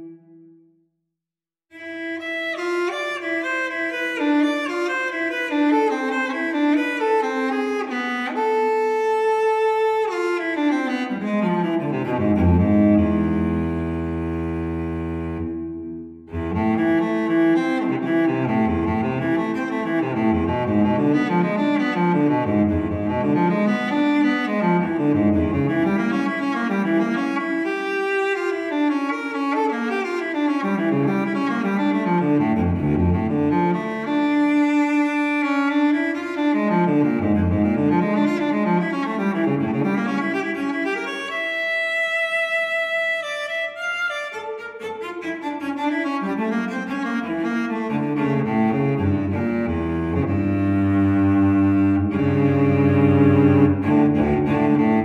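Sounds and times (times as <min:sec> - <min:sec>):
cello melody: 0:00.0 - 0:00.7, 0:01.7 - 0:55.0.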